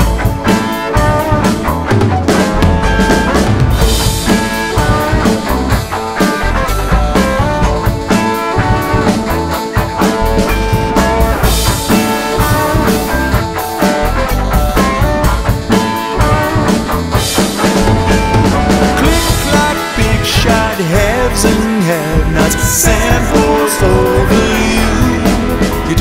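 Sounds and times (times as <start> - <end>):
drum kit: 0.0 - 26.0
electric guitar: 0.0 - 26.0.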